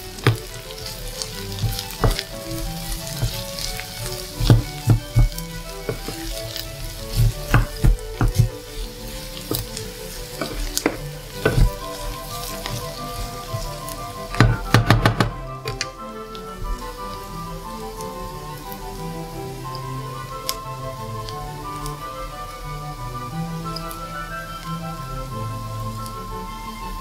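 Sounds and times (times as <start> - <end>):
food sizzling in a frying pan: 0.0 - 27.0
wooden spatula scraping a pan: 0.0 - 27.0.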